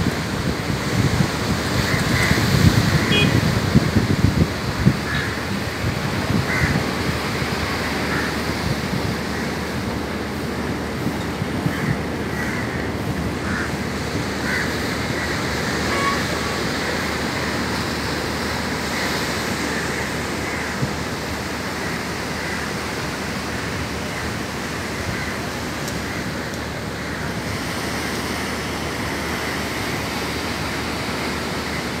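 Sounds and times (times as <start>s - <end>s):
ocean surf breaking: 0.0s - 32.0s.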